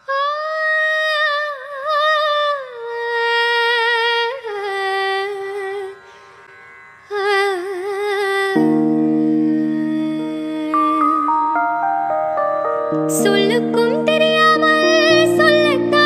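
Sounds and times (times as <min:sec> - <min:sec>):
indian classical-style melody: 0:00.0 - 0:16.0.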